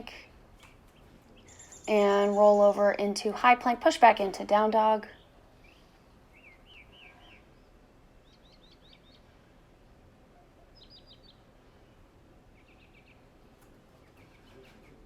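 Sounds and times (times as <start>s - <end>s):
birds chirping faintly: 0.0s - 15.0s
low background hiss: 0.0s - 15.0s.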